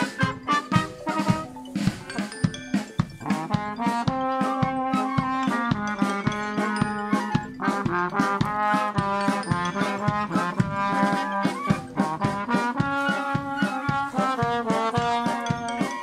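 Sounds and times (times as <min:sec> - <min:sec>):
flute: 0:00.0 - 0:01.7, 0:03.6 - 0:16.0
trombone: 0:00.0 - 0:02.4, 0:03.2 - 0:16.0
trumpet: 0:00.0 - 0:02.4, 0:03.2 - 0:16.0
steady drum beat: 0:00.0 - 0:16.0.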